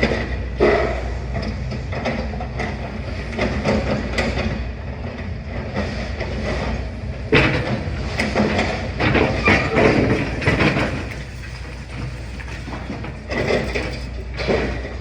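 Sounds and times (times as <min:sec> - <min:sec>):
clatter and crunch of rubble: 0:00.0 - 0:15.0
excavator engine running: 0:00.0 - 0:15.0.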